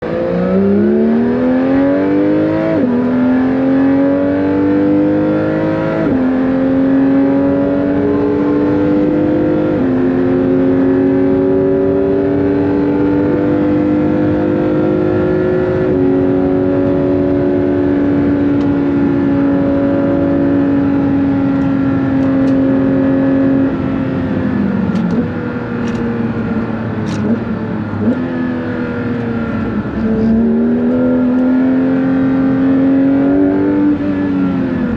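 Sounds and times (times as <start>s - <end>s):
car engine accelerating through gears: 0.0s - 34.9s.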